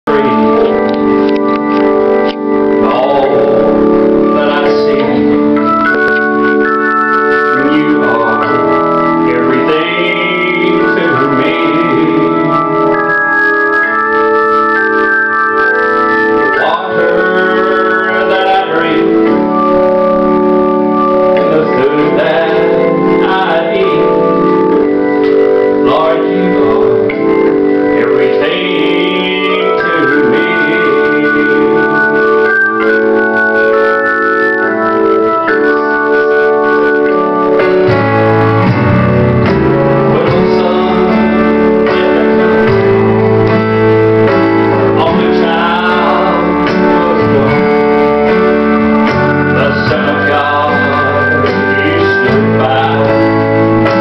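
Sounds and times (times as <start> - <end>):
man singing into microphone: 0.0 - 6.4, 7.1 - 15.1, 16.1 - 20.4, 21.0 - 33.4, 39.4 - 54.0
organ chords: 0.0 - 54.0.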